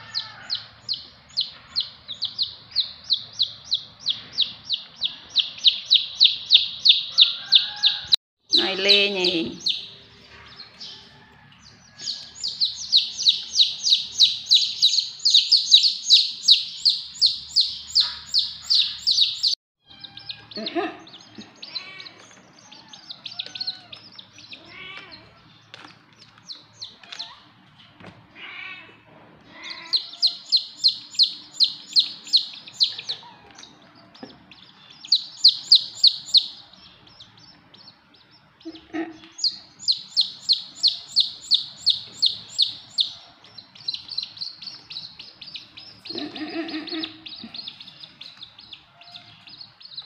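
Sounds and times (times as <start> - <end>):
chicks peeping loudly: 0.0 - 50.0
soft chick chirps: 0.0 - 50.0.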